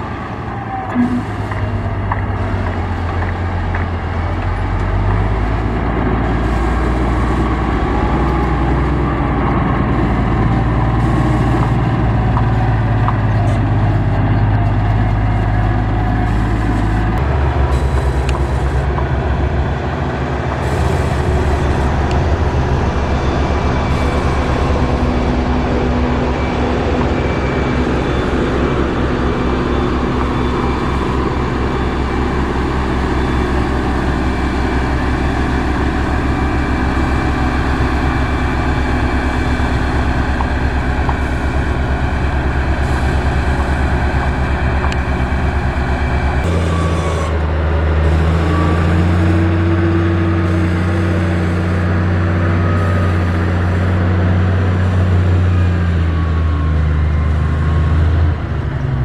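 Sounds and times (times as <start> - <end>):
deeper steady engine note: 0.0 - 59.0
diesel engines running: 0.0 - 59.0.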